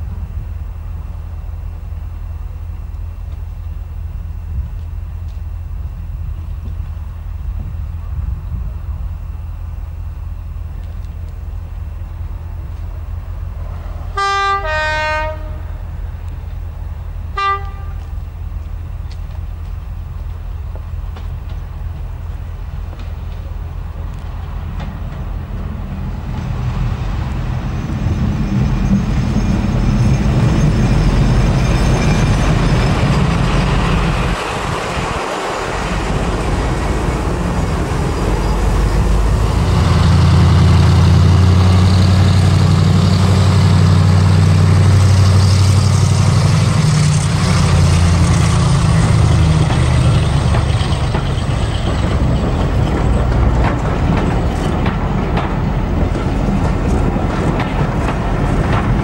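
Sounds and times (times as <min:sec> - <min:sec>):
locomotive engine running: 0:00.0 - 0:59.0
train of coaches passing: 0:00.0 - 0:59.0.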